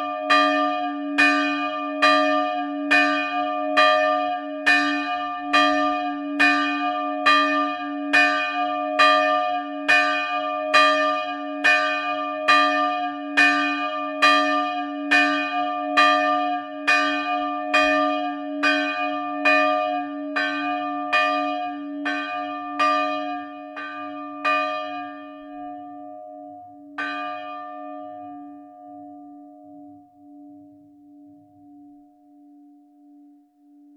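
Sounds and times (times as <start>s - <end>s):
church bell ringing: 0.0s - 33.3s.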